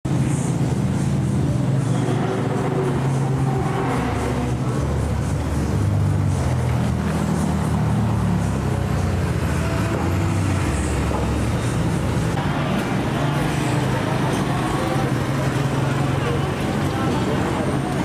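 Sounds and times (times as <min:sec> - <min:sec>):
car engines passing: 0:00.1 - 0:18.0
motorbike engines passing: 0:00.1 - 0:18.0.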